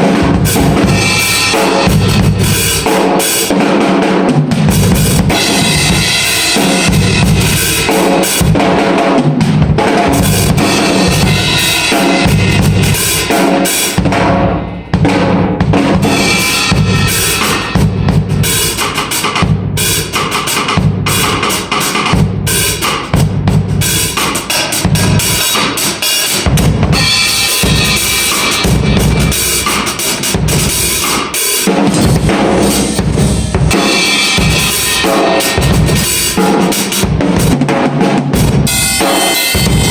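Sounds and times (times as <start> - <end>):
bass drum: 0.0 - 3.0, 3.6 - 25.7, 26.4 - 39.9
cymbals: 0.0 - 39.9
snare drum: 0.0 - 39.9.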